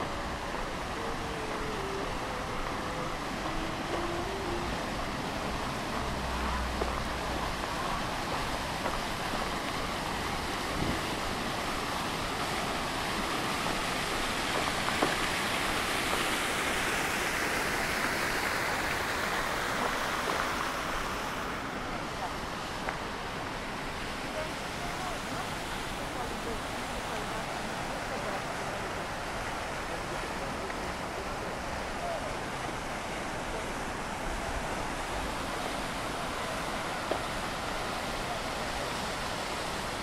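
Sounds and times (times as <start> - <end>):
fountain splashing: 0.0 - 40.0.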